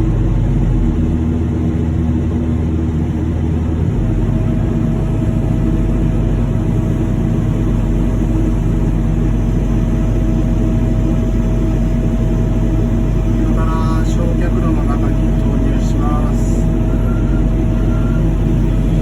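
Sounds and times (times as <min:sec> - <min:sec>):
heavy machine engine drone: 0:00.0 - 0:19.0
faint steady whine: 0:03.0 - 0:19.0.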